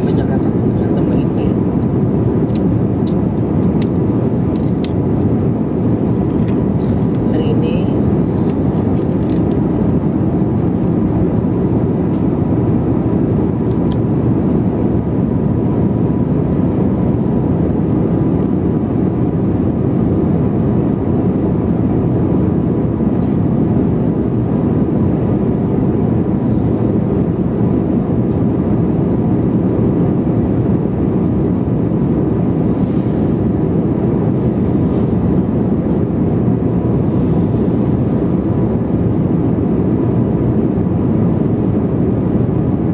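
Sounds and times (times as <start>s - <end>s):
airliner cabin rush: 0.0s - 42.8s.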